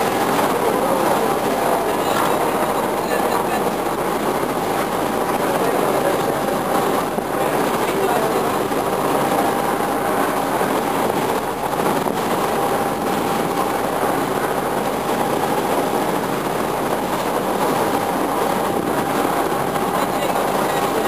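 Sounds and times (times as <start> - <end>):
motor boat engine running: 0.0 - 21.0
water churning: 0.0 - 21.0.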